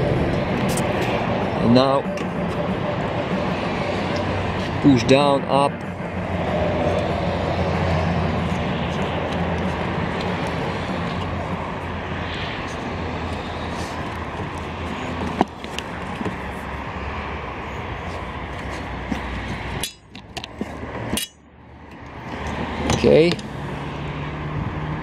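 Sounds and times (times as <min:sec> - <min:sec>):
vehicle engine hum: 0:00.0 - 0:25.0.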